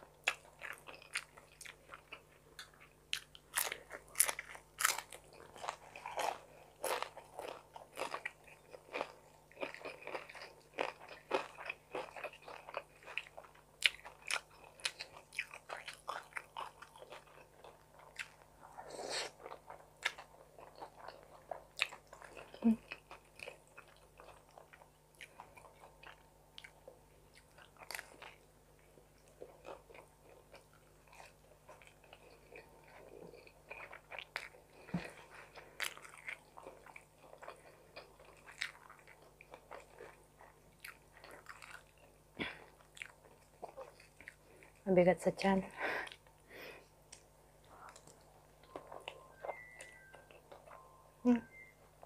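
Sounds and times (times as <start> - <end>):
person chewing food: 0.0 - 44.8, 45.7 - 52.0.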